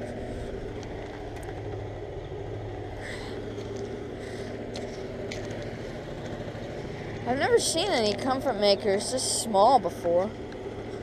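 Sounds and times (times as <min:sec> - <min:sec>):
air conditioner units humming: 0:00.0 - 0:11.0.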